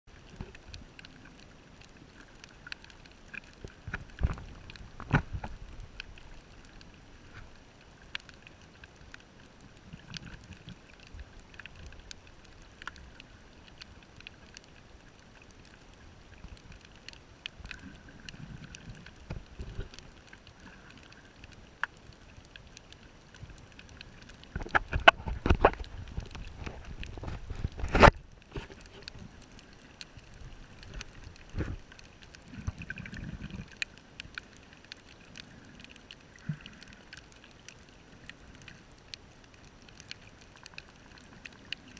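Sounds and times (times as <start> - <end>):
low underwater rumbles: 0.1 - 41.9
underwater clicks: 0.2 - 9.2, 9.9 - 41.9.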